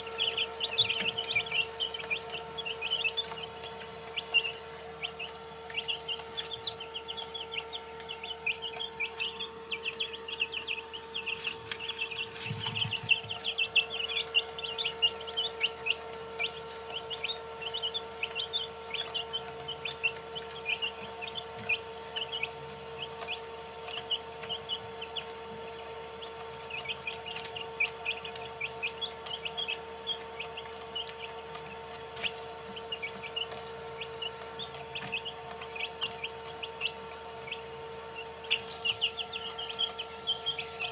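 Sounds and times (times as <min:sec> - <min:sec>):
chicks peeping: 0:00.0 - 0:40.9
steady hum: 0:00.0 - 0:40.9.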